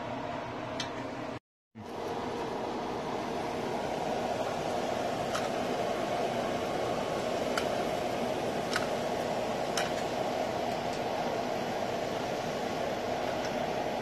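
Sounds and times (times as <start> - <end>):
dough sizzling in hot oil: 2.6 - 14.0.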